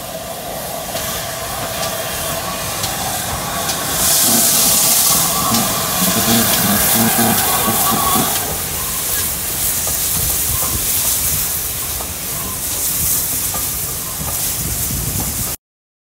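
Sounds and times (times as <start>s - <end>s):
steam hissing: 0.0s - 15.6s.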